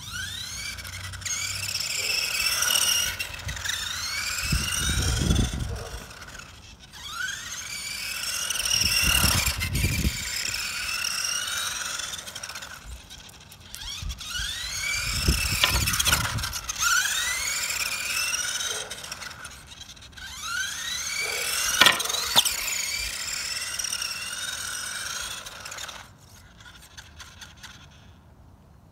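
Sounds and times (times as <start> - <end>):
toy truck electric motor whining: 0.0 - 28.4.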